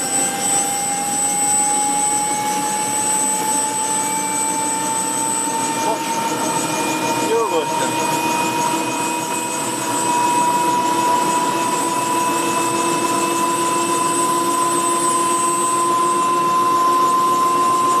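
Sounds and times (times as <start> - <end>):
helicopter turbine whine: 0.0 - 18.0.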